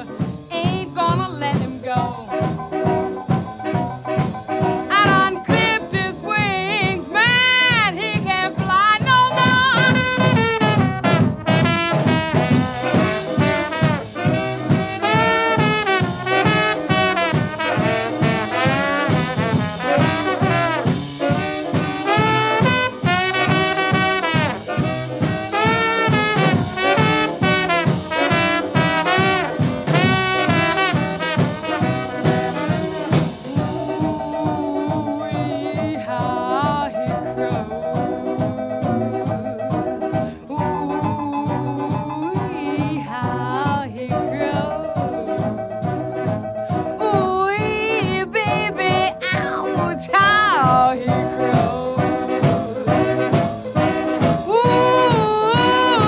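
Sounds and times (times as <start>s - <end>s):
rhythm and blues brass music: 0.0s - 56.0s
steady beat: 0.0s - 56.0s
trombone: 0.0s - 56.0s.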